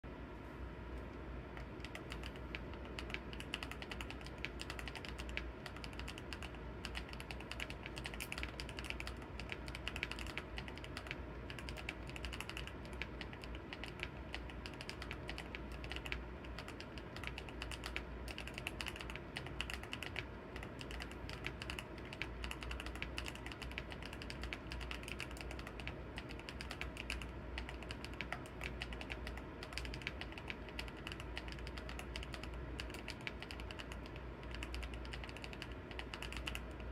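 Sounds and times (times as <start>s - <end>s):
mechanical keyboard typing: 1.6s - 36.9s.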